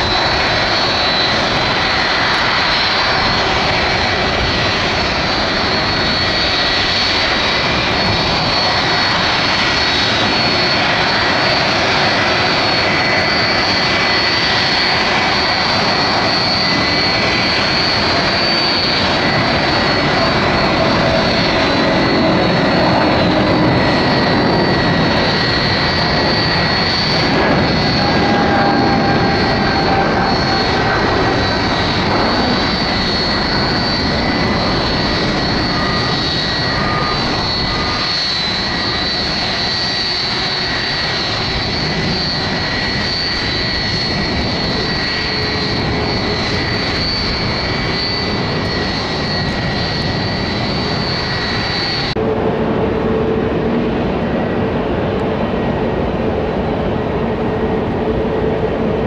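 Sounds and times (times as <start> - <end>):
airliner jet engines taking off: 0.0 - 59.0
business jet engines taking off: 0.0 - 59.0.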